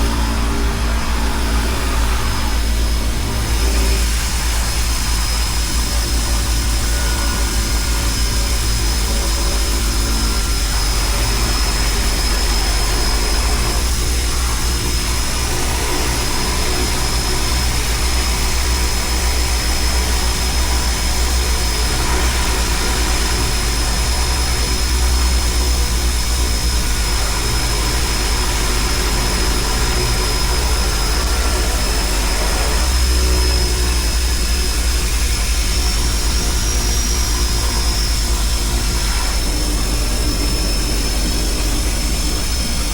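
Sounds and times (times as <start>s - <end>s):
high whine: 0.0s - 42.9s
propeller engines droning: 0.0s - 42.9s.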